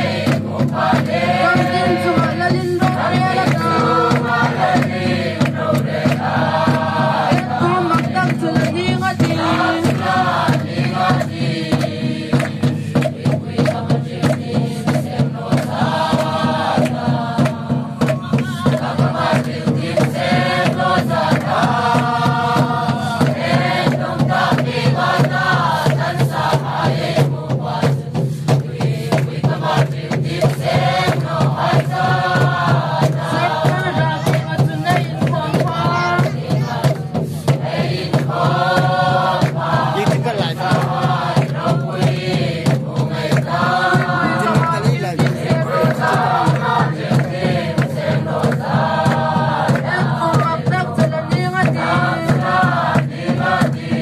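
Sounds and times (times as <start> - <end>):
crowd singing a hymn: 0.0 - 54.0
large drums beating: 0.0 - 54.0.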